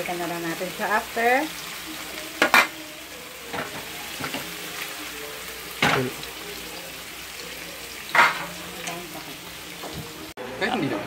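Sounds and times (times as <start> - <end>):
chicken sizzling in a frying pan: 0.0 - 10.9.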